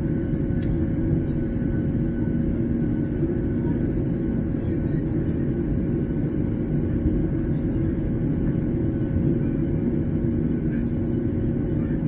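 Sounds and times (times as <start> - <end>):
airliner cabin rumble: 0.0 - 12.0
constant hum: 0.0 - 12.0.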